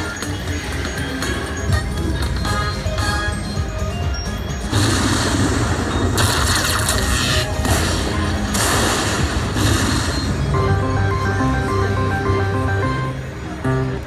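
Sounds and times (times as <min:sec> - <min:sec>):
slot machine electronic music: 0:00.0 - 0:14.0.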